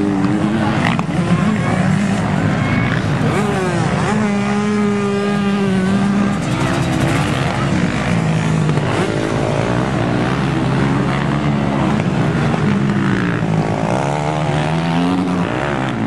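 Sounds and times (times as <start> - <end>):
motocross bike engines racing: 0.0 - 16.0.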